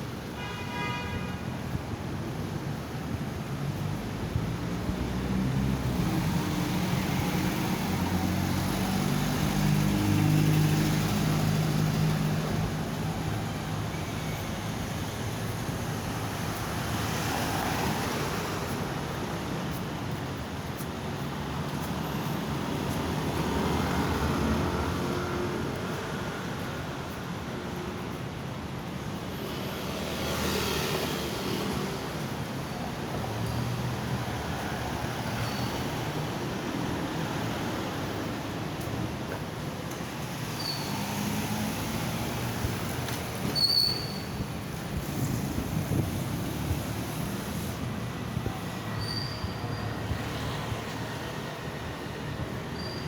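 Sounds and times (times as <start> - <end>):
vehicles passing on road: 0.0 - 53.0.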